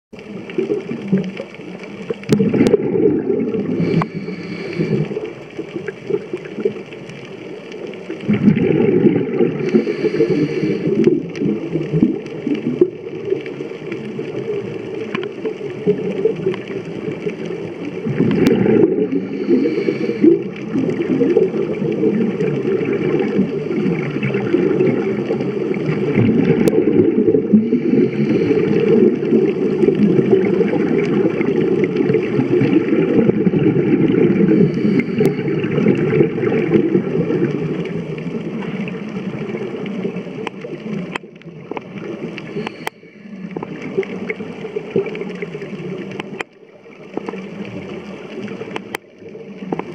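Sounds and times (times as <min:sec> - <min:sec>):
underwater regulator bubbles: 0:00.1 - 0:49.9.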